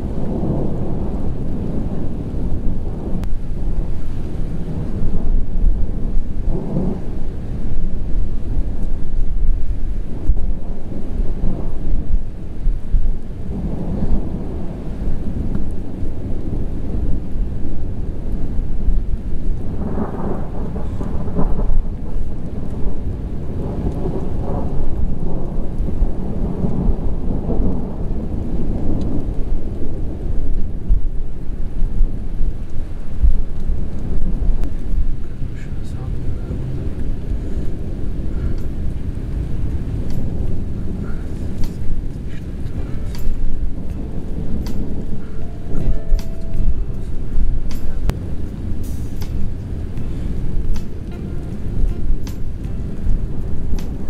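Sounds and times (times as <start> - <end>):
steady rain hiss: 0.0 - 54.0
thunder rumbling: 0.0 - 54.0.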